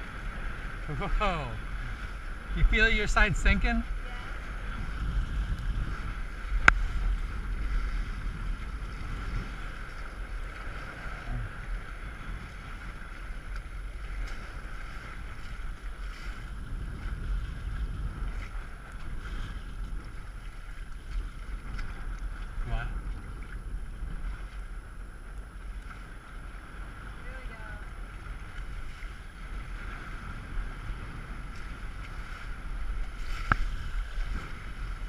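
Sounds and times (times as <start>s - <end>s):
water washing past hull: 0.0s - 35.0s
wind buffeting microphone: 0.0s - 35.0s.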